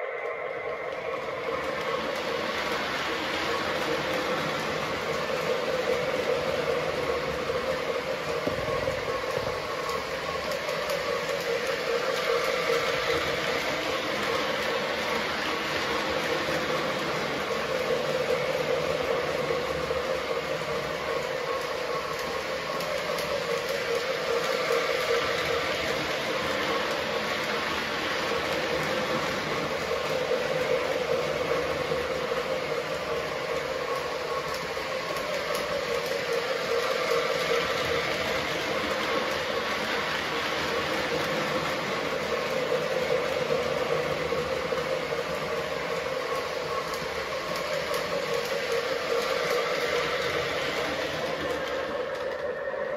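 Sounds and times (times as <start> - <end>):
toy train running on track: 0.0 - 52.9.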